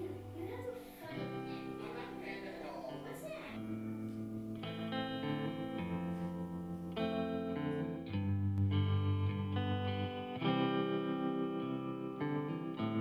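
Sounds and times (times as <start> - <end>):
background music held chords: 0.0 - 13.0.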